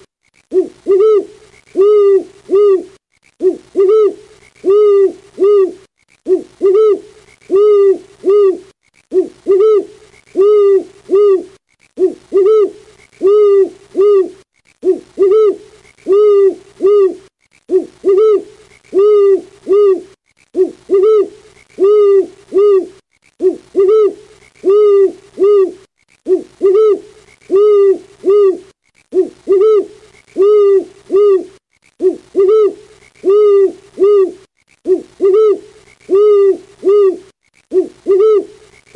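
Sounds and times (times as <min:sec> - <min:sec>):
owl hooting: 0:00.0 - 0:38.9.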